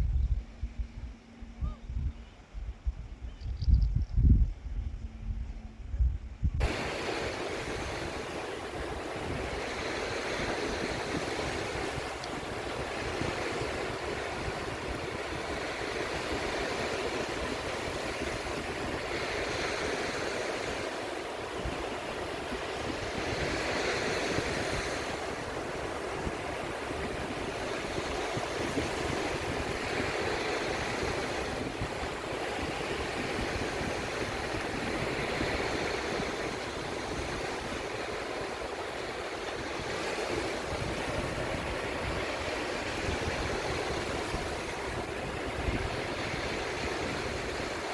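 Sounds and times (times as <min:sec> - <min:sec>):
sea waves breaking and washing: 0:06.6 - 0:47.9.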